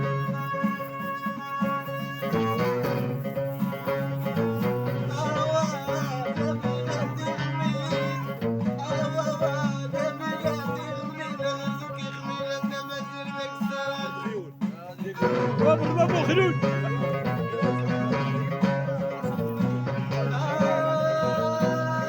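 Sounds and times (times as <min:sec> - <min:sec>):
plucked string riff: 0:00.0 - 0:22.0.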